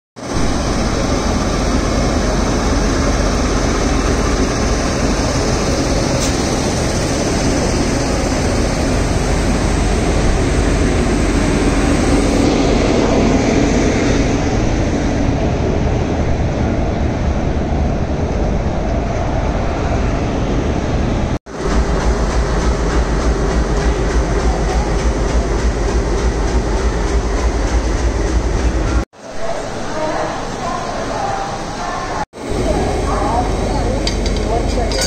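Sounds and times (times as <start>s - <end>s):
electric locomotive whir and rumble: 0.2s - 29.0s, 32.4s - 35.0s.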